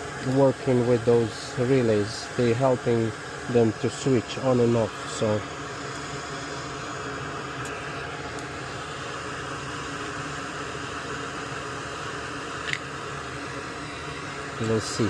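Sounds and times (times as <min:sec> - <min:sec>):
steady fan-like hiss: 0:00.0 - 0:15.0.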